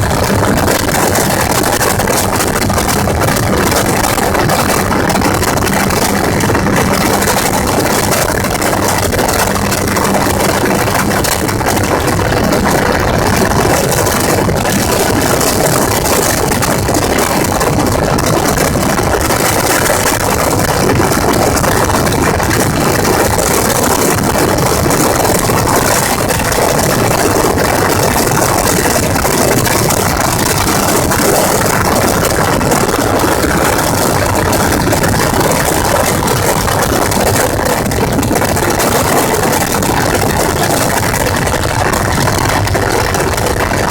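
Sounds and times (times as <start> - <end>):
gyrocopter engine and propeller: 0.0 - 43.9
wind rushing: 0.0 - 43.9.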